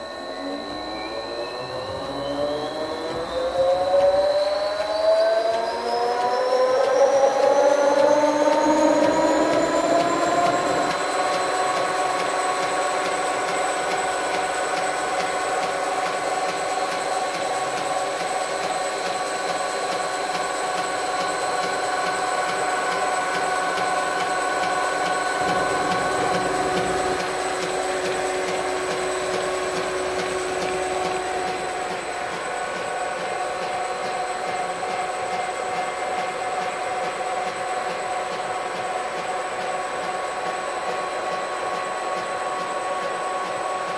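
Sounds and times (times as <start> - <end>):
lathe motor whining: 0.0 - 40.1.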